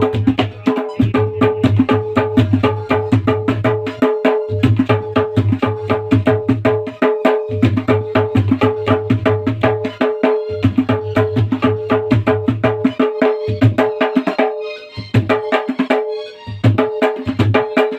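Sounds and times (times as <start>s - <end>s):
tabla strokes: 0.0s - 17.9s.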